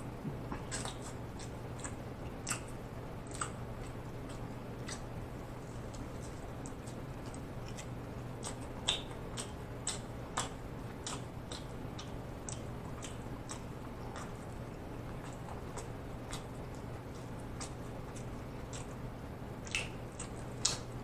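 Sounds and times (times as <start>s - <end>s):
faint low hum: 0.0s - 21.0s
wet chewing mouth clicks: 0.4s - 21.0s.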